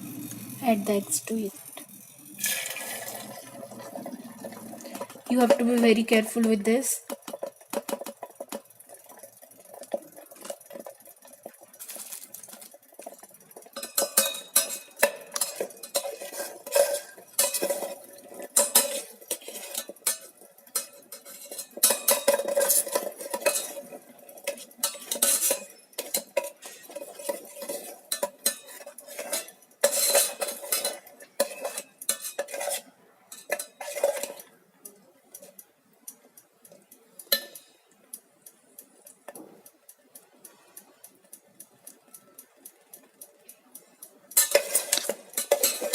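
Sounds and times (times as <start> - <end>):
utensil scraping and clinking in kettle: 0.0 - 34.5, 37.2 - 37.9, 43.8 - 45.9.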